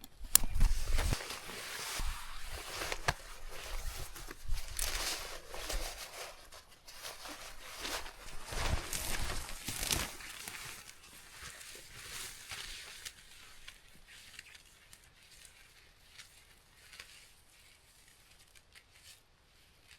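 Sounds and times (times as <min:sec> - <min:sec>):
rustling and brushing: 0:00.4 - 0:19.9.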